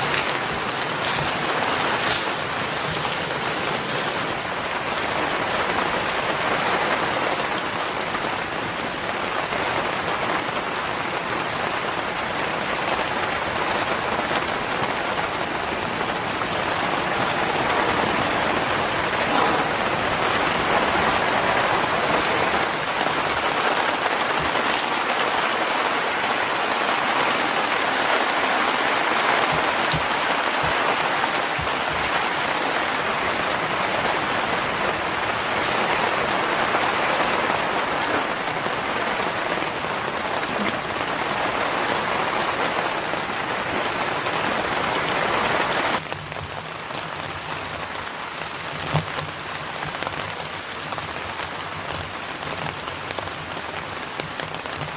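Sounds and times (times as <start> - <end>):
heavy rain pattering: 0.0 - 54.9.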